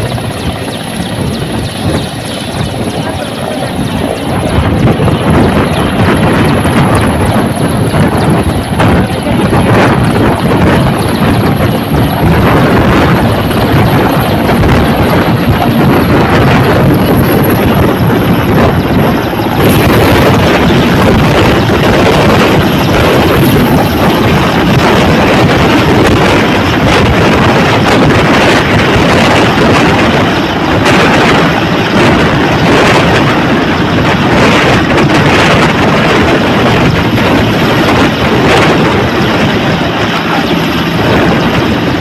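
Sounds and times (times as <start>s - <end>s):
twin-rotor helicopter running: 0.0s - 42.0s.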